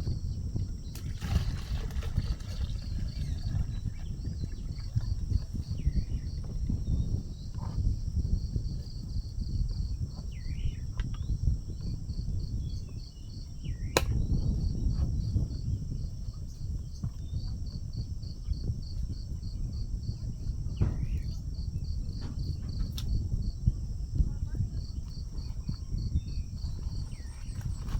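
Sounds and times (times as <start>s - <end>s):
insects chirping: 0.0s - 27.9s.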